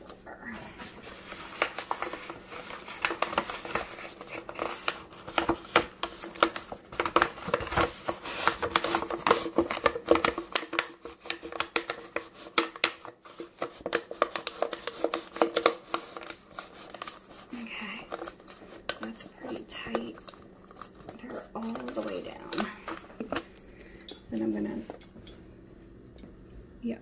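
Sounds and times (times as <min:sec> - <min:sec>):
plastic sheets crinkling: 0:00.0 - 0:23.6
faint steady hum: 0:00.0 - 0:27.0.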